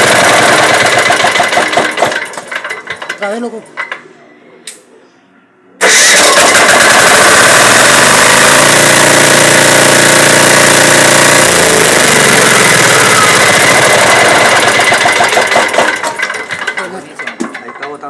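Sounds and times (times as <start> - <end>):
engine starting and running loudly: 0.0 - 3.2, 5.8 - 17.1.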